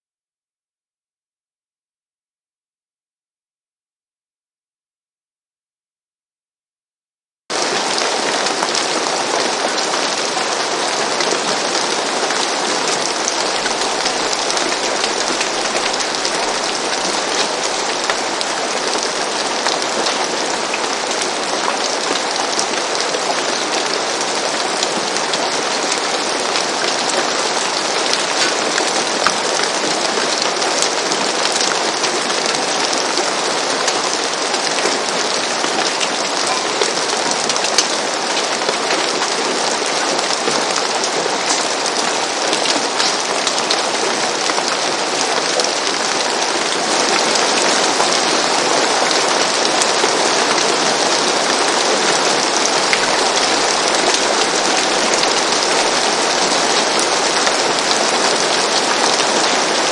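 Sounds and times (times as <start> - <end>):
rain on a roof: 7.5 - 59.9.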